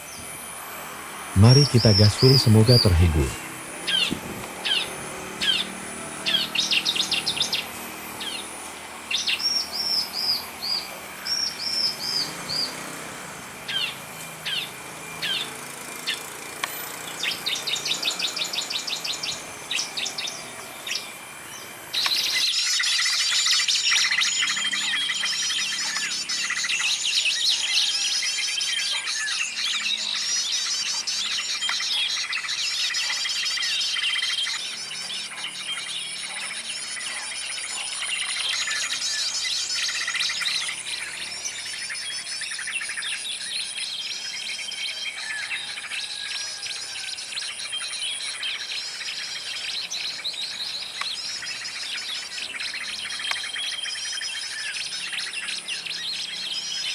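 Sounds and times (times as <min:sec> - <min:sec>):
dense chorus of birds chirping: 0:00.0 - 0:56.9.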